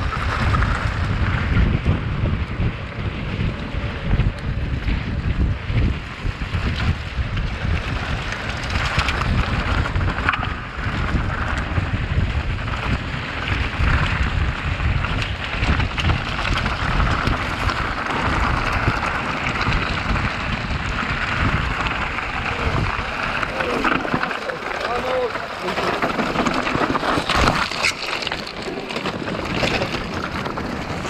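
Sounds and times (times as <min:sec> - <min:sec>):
mountain bike rattling on rocks: 0:00.0 - 0:31.0
wind buffeting microphone: 0:00.0 - 0:31.0.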